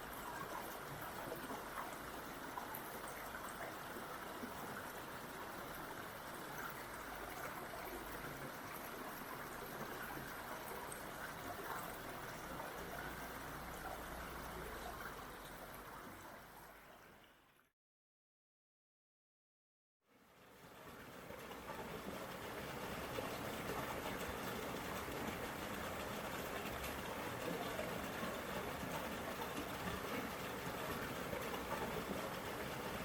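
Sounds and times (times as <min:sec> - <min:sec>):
water flowing over rock: 0:00.0 - 0:17.2, 0:20.8 - 0:33.0.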